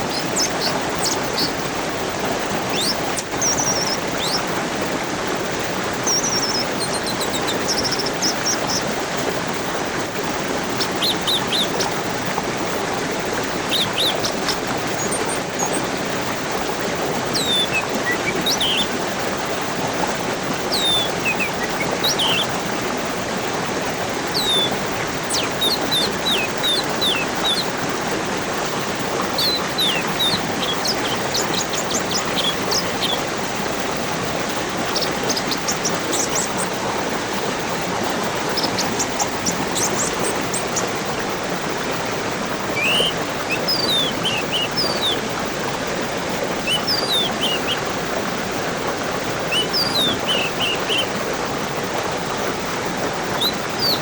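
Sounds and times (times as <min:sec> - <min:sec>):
small birds chirping: 0:00.0 - 0:51.4, 0:52.9 - 0:54.0
stream water rushing: 0:00.0 - 0:54.0.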